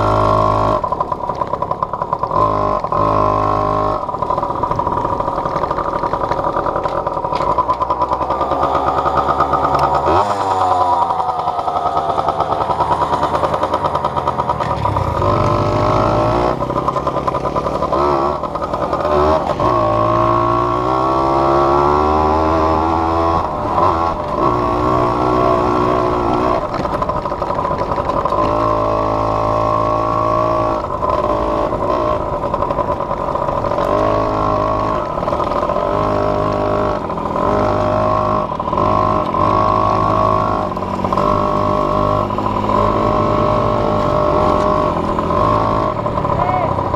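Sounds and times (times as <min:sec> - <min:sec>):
off-road vehicle engine revving: 0:00.0 - 0:01.6, 0:02.2 - 0:46.9.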